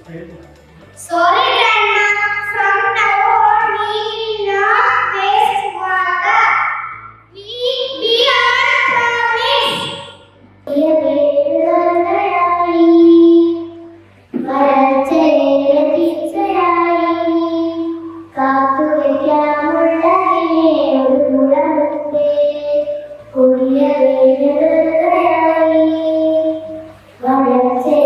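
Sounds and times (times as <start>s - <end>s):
girl singing into microphone: 1.0s - 28.0s.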